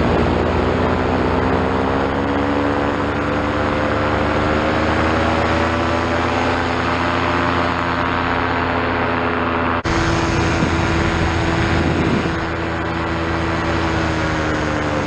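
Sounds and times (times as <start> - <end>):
paramotor engine and propeller: 0.0 - 15.0.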